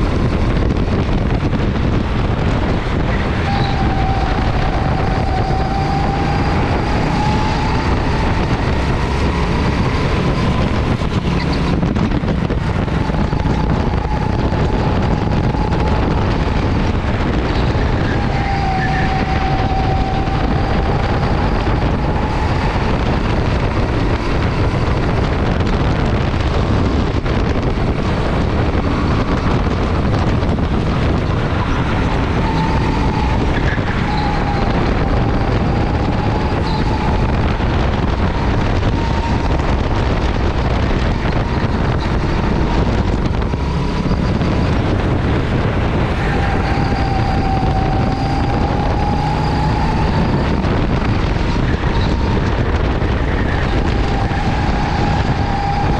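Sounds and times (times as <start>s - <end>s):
go-kart engine whine: 0.0s - 55.9s
wind noise on microphone: 0.0s - 55.9s.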